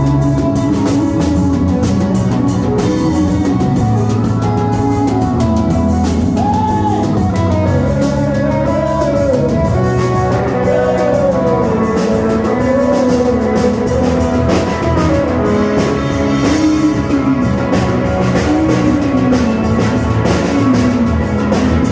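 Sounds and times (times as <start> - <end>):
drum beat: 0.0 - 21.9
guitar: 0.0 - 21.9
wavering sliding lead melody: 0.0 - 21.9.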